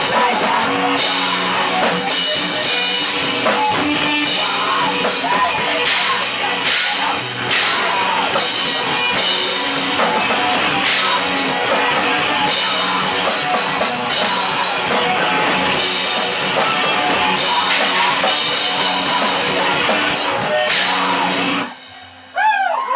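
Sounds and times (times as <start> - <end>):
rock band playing: 0.0 - 22.4.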